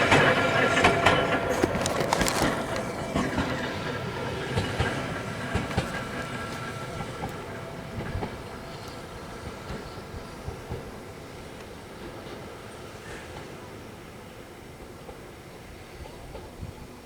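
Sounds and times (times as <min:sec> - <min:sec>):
electric train wheels clacking: 0:00.0 - 0:17.0.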